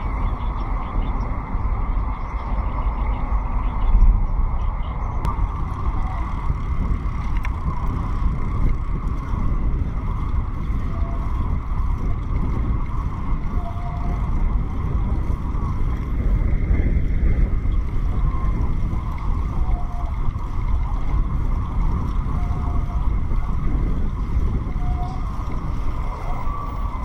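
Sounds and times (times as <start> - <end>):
bicycle tyres rolling on path: 0.0 - 27.0
wind over microphone: 0.0 - 27.0.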